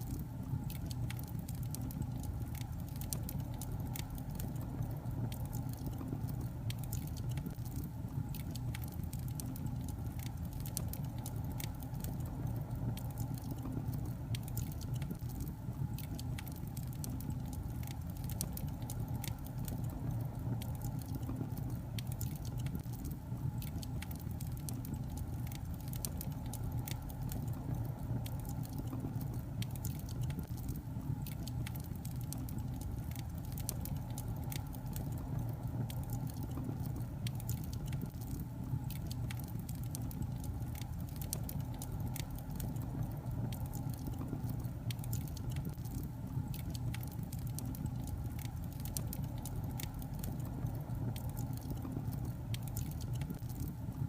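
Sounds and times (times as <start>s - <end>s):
fireplace logs crackling: 0.0s - 53.9s.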